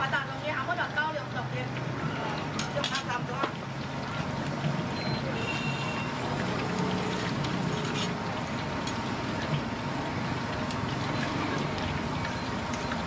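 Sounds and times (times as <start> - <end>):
oil sizzling while deep-frying: 0.0 - 13.0.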